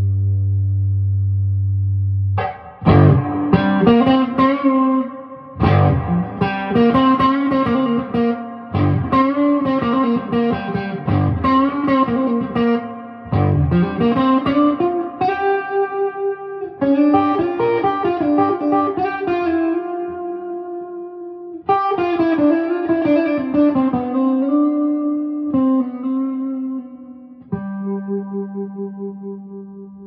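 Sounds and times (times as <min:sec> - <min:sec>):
electric guitar with spring reverb: 0:00.0 - 0:30.0.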